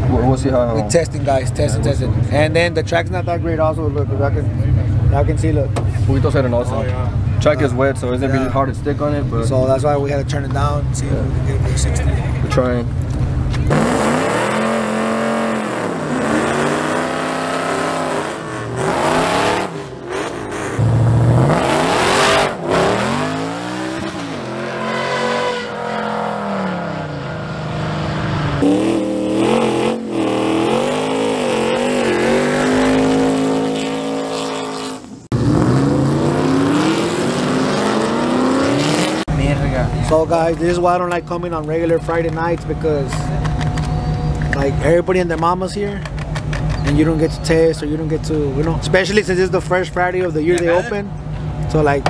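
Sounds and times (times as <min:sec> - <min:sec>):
truck engine revving: 0:04.8 - 0:51.9.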